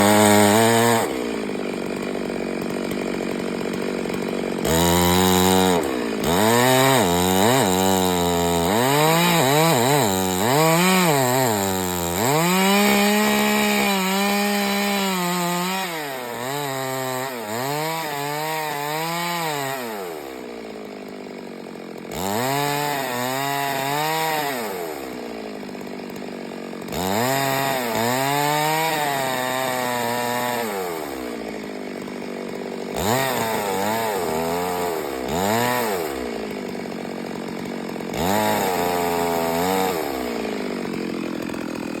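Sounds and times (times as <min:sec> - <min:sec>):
chainsaw engine revving: 0:00.0 - 0:42.0.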